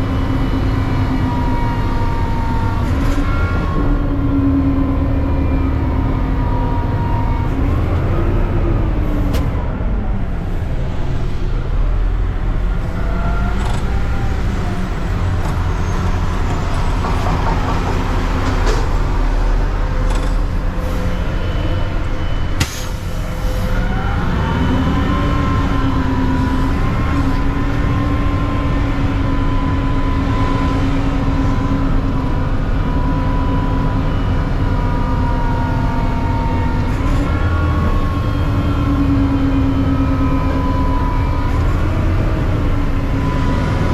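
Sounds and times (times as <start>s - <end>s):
garbage truck engine running: 0.0s - 43.9s.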